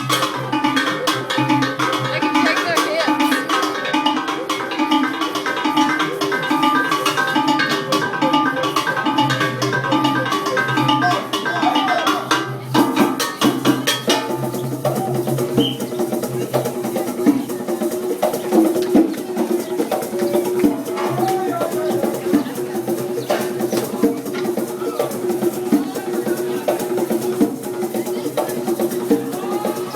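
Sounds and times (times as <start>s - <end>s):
hand drums beating: 0.0s - 29.9s.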